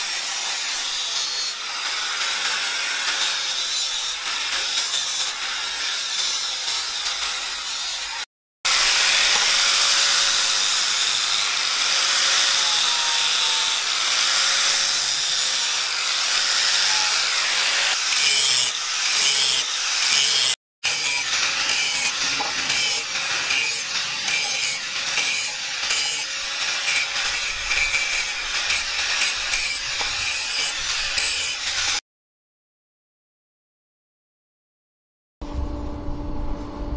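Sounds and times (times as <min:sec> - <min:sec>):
angle grinder grinding steel: 0:00.0 - 0:32.0.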